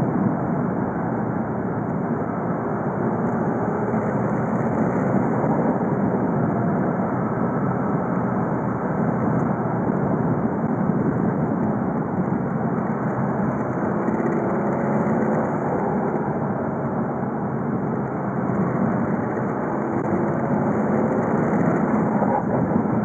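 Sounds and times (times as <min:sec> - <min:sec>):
diesel engine droning: 0:00.0 - 0:23.0
road noise: 0:00.0 - 0:23.0.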